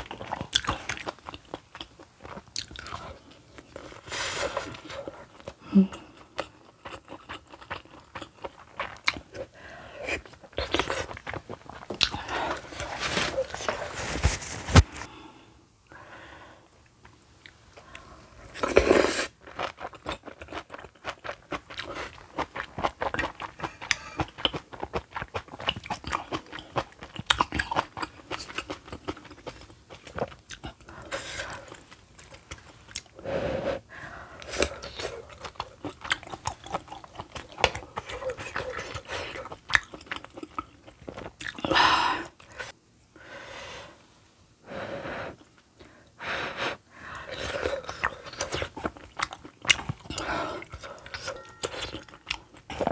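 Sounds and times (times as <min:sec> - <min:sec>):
chewing and wet mouth sounds: 0:00.0 - 0:13.7, 0:16.8 - 0:33.2, 0:34.4 - 0:42.7, 0:47.2 - 0:52.9.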